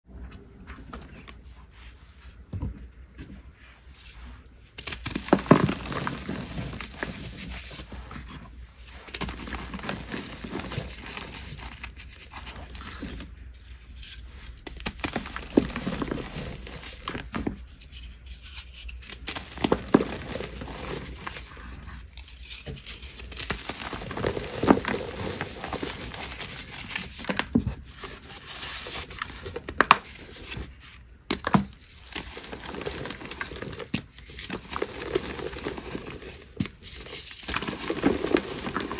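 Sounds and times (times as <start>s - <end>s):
chalk crunching and crumbling: 4.0s - 38.9s.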